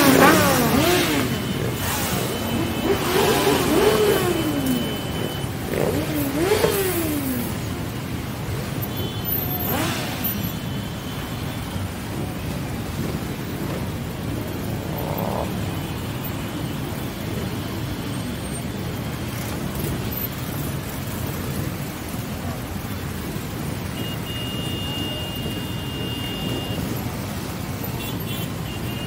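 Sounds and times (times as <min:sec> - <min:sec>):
motorcycle engines rumbling: 0:00.0 - 0:29.0.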